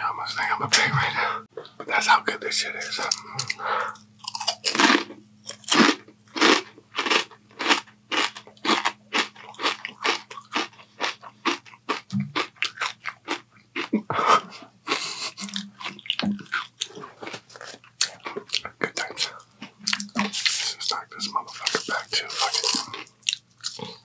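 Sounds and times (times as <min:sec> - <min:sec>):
faint low hum: 0:00.0 - 0:24.0
chewing crunchy potato chips: 0:02.9 - 0:24.0.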